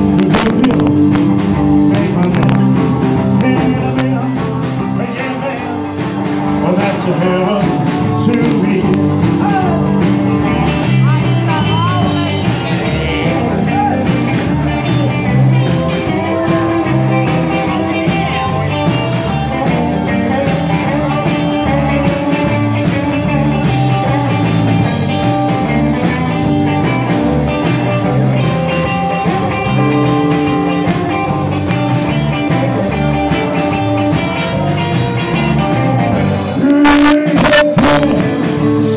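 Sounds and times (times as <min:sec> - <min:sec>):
bass guitar: 0:00.0 - 0:38.9
drums with steady beat: 0:00.0 - 0:38.9
electric guitar: 0:00.0 - 0:38.9.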